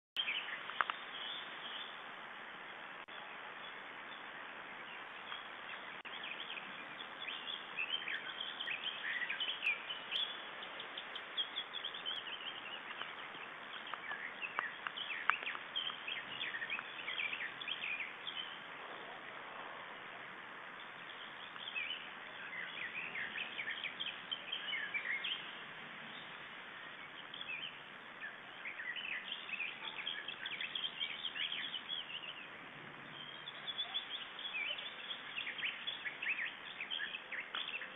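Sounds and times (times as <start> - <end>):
steady hiss: 0.2 - 37.9
birds chirping and singing: 3.1 - 18.7, 20.7 - 37.9.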